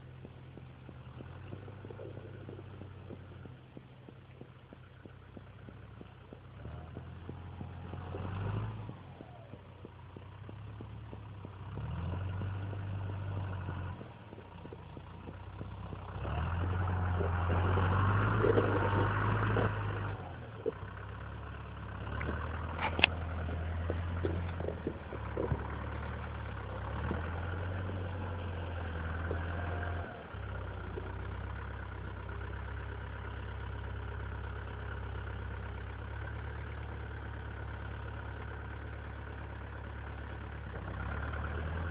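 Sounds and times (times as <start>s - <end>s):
tractor diesel engine revving: 0.0s - 41.9s.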